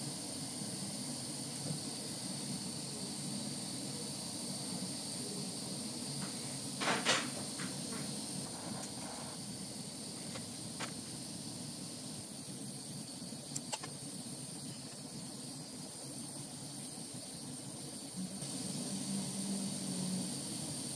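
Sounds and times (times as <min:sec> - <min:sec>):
gas torch flame hissing: 0:00.0 - 0:20.9.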